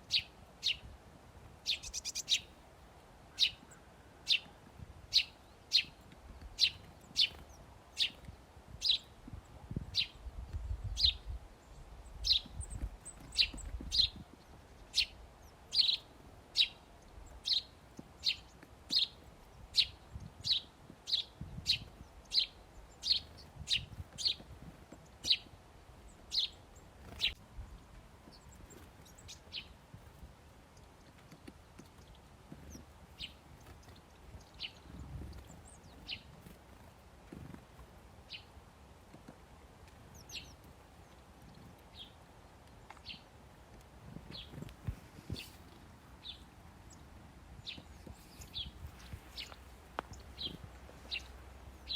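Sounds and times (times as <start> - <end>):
small bird chirping: 0.0 - 0.9, 1.6 - 2.6, 3.3 - 36.6, 39.9 - 43.3, 44.0 - 51.9.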